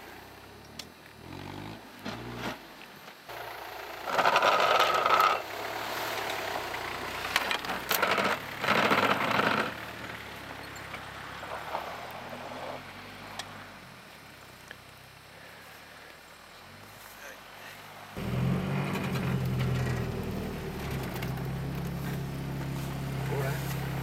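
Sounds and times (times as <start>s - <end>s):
off-road engine revving: 0.0s - 24.0s
tyres churning in snow: 0.0s - 24.0s.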